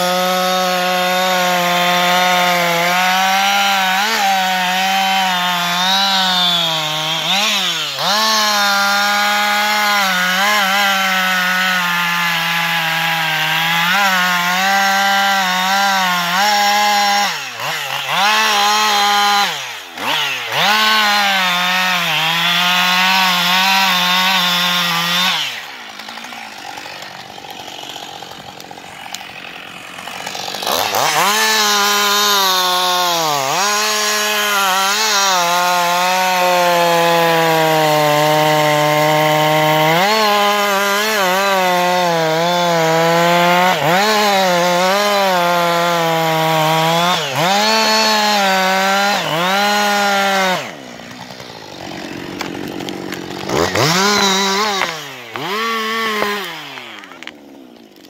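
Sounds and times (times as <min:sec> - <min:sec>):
chainsaw cutting tree: 0:00.0 - 0:58.0.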